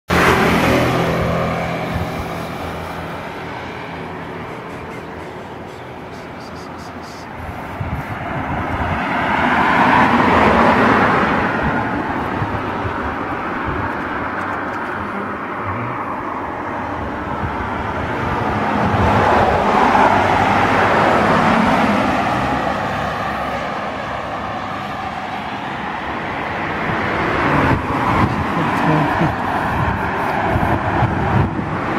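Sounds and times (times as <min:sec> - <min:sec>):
vehicles passing on road: 0:00.0 - 0:31.9.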